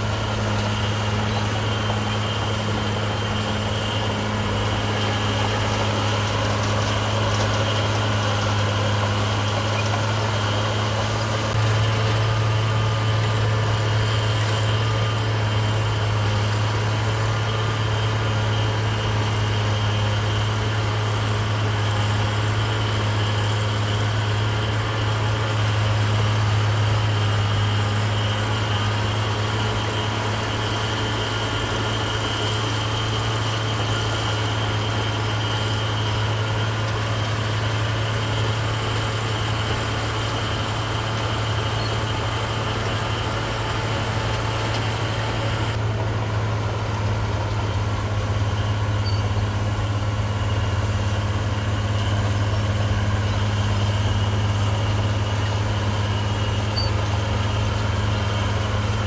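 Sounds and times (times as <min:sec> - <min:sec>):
heavy diesel engine drone: 0:00.0 - 0:59.0.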